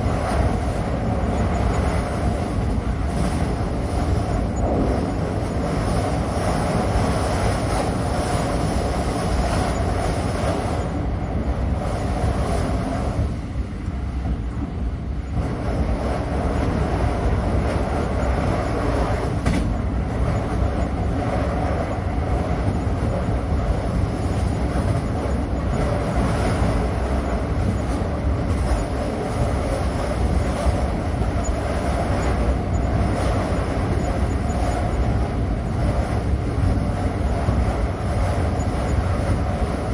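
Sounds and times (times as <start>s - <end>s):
train rumbling and rolling: 0.0s - 39.9s.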